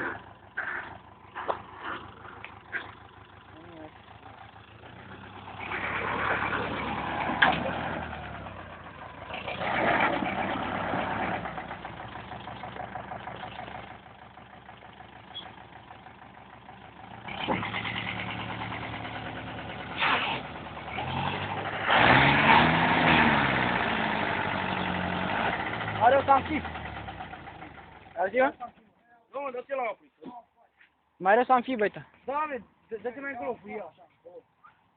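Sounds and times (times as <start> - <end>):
tractor engine revving: 0.0 - 28.8.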